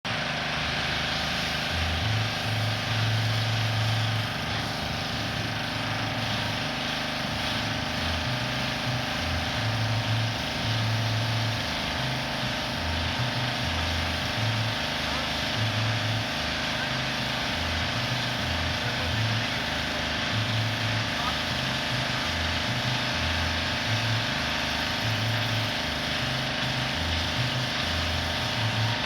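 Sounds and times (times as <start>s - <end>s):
pressure washer motor drone: 0.0s - 29.0s
pressure washer water spray hiss: 0.1s - 29.0s.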